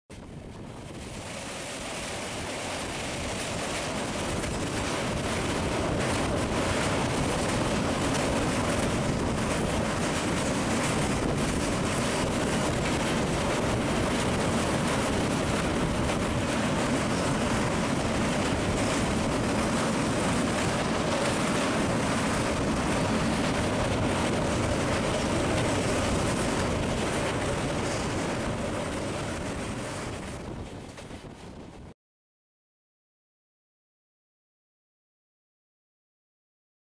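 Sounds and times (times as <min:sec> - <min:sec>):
train wheels rumbling on rails: 0:00.1 - 0:31.9
wind buffeting microphone: 0:00.1 - 0:31.9.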